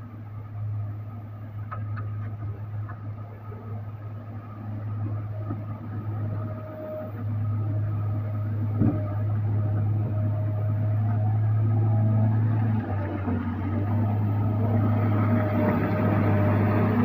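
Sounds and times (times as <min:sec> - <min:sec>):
diesel engine hum: 0:00.0 - 0:17.0.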